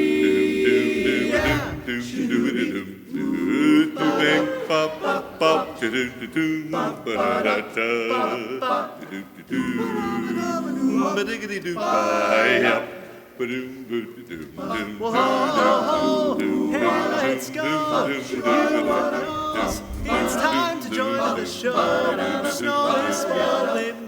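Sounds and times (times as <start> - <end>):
male chorus singing a cappella: 0.0 - 24.0.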